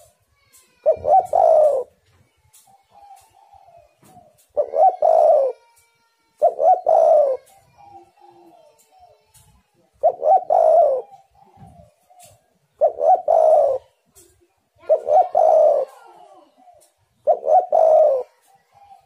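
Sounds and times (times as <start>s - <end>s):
dove cooing: 0.0s - 5.7s, 6.4s - 9.0s, 10.0s - 19.0s.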